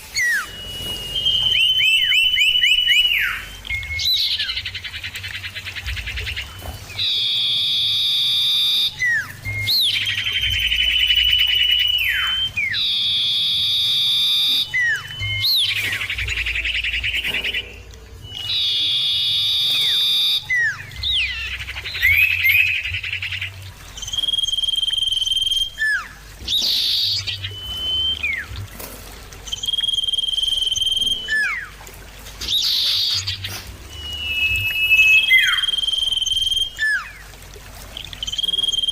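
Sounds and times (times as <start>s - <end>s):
bird whistling and trilling: 0.0s - 31.8s, 32.4s - 37.3s, 37.9s - 38.9s.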